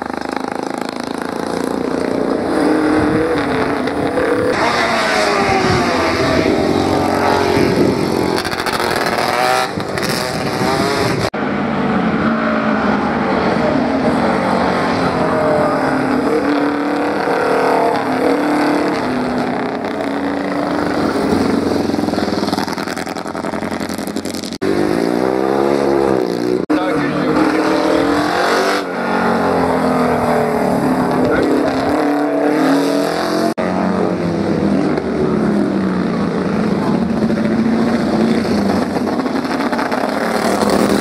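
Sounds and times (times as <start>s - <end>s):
motorcycle engines accelerating: 0.0s - 41.0s.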